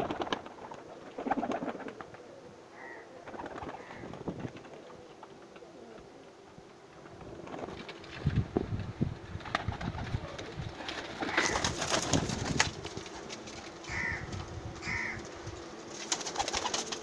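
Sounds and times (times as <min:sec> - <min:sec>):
wings flapping: 0:00.0 - 0:02.3, 0:02.9 - 0:06.1, 0:06.9 - 0:17.0
pigeons cooing: 0:00.0 - 0:17.0.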